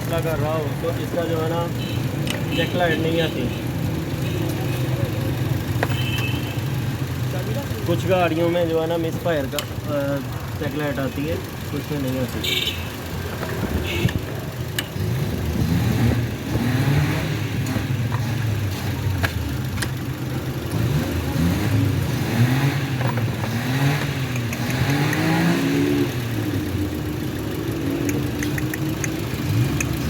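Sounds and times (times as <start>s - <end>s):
car engine misfiring: 0.0s - 30.0s.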